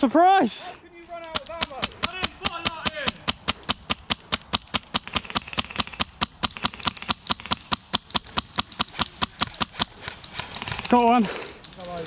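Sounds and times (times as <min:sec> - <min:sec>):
airsoft rifle firing full-auto: 0:01.4 - 0:11.6.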